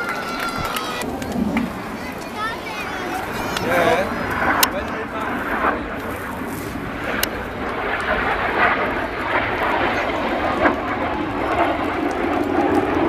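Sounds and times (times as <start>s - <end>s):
jet engine rushing: 0.0s - 13.0s.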